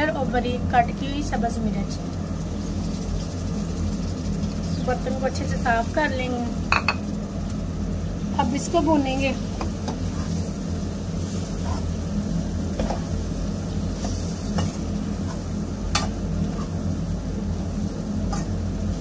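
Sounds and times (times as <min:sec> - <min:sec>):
vegetables sauteing in a pan: 0:00.0 - 0:19.0.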